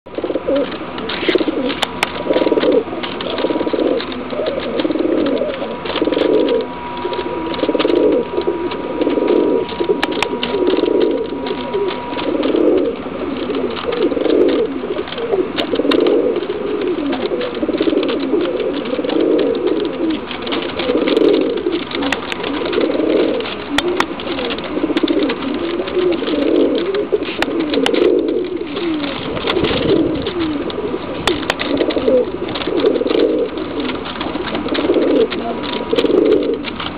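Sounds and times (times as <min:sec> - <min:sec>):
pigeons cooing: 0:00.1 - 0:36.9.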